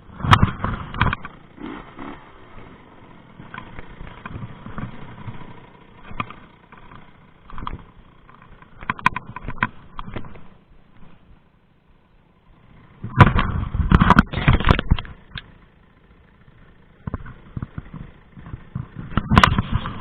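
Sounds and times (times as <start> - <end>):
dirt bike engine: 0.0 - 20.0
sharp knocks and rattles: 0.2 - 11.2, 13.0 - 15.6, 16.5 - 20.0.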